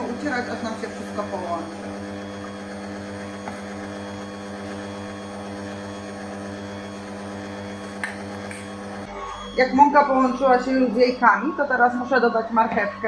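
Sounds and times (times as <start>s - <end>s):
stand mixer motor humming: 0.0s - 13.0s.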